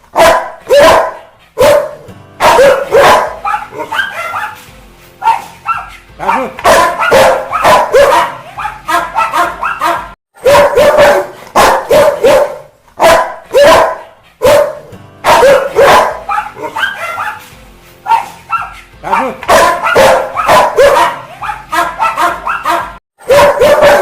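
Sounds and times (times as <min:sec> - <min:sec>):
dog barking angrily: 0:00.1 - 0:04.6, 0:05.2 - 0:17.4, 0:18.1 - 0:24.0.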